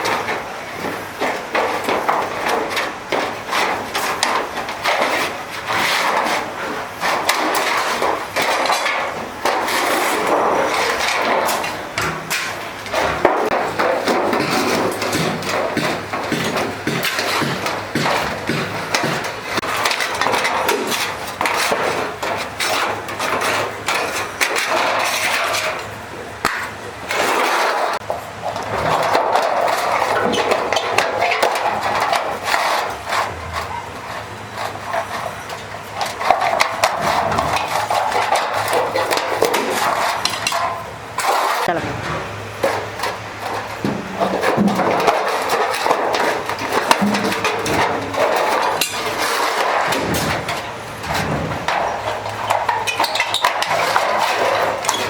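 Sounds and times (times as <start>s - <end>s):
rapid hammering knocks: 0.0s - 55.0s.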